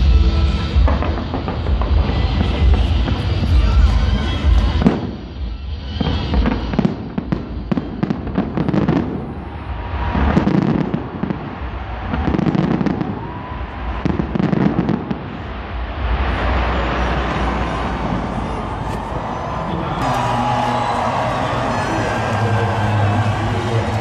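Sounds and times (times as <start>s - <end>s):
fireworks crackling: 0.0s - 24.0s
fireworks booming: 0.6s - 24.0s.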